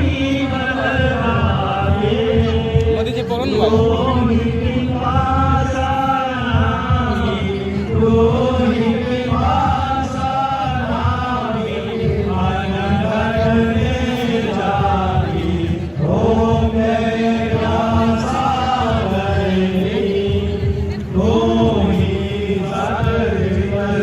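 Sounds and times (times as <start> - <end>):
voices chanting: 0.0 - 24.0.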